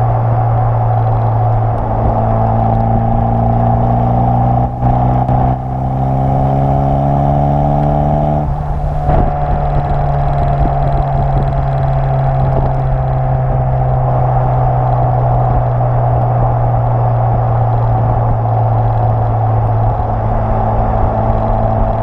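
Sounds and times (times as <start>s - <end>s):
car engine and exhaust revving: 0.0s - 22.0s.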